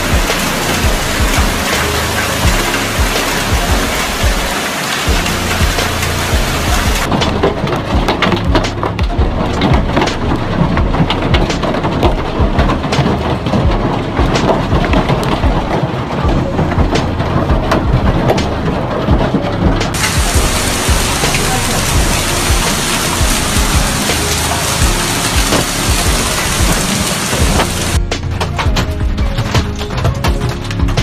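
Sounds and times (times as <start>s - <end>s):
hailstones pelting down: 0.0s - 31.0s.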